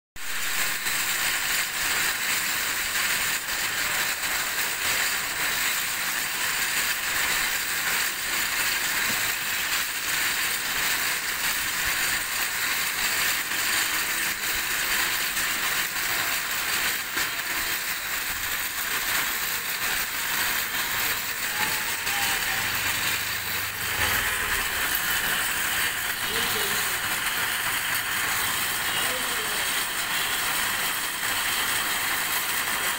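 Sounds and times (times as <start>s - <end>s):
yarn winding machine whirring: 0.4s - 32.9s.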